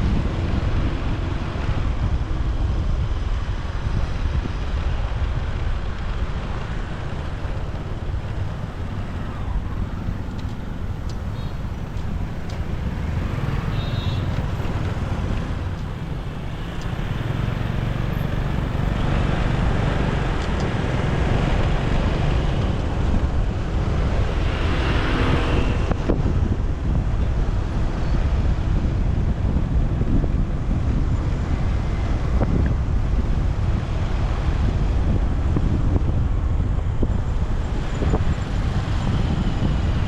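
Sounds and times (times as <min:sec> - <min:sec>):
motorcycle engine and road noise: 0:00.0 - 0:40.0
wind buffeting microphone: 0:00.0 - 0:40.0.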